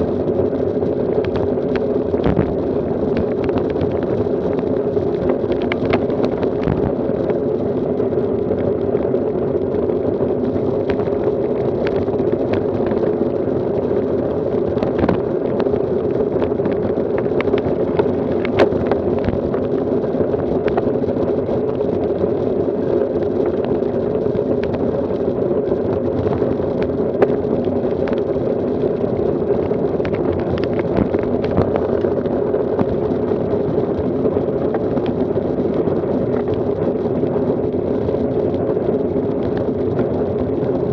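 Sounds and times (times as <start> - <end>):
bicycle wind and tyre noise: 0.0 - 40.9.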